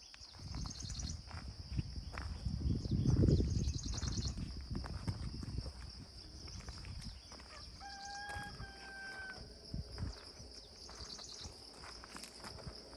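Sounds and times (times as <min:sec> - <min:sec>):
soft footsteps on a path: 0:00.0 - 0:12.9.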